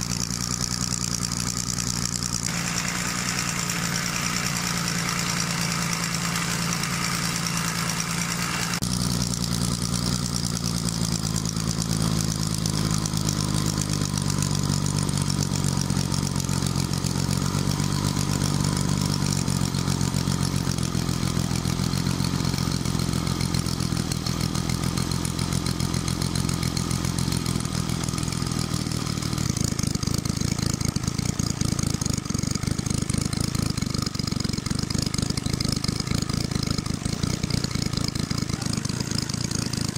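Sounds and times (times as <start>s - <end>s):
model petrol engine running: 0.0s - 39.9s.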